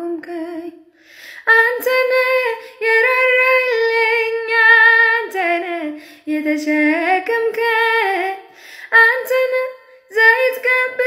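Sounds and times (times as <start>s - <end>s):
woman singing unaccompanied: 0.0s - 0.8s, 1.4s - 11.0s.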